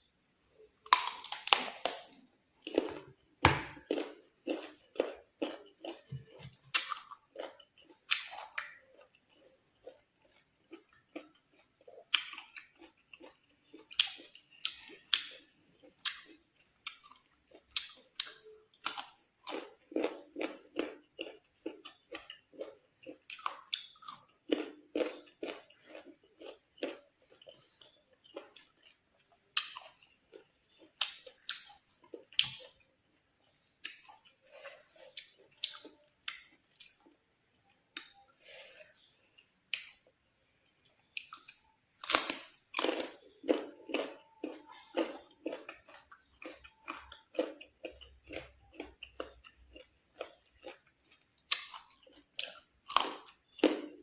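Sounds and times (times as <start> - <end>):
crunchy biting and chewing: 0.9 - 32.8, 41.2 - 54.0.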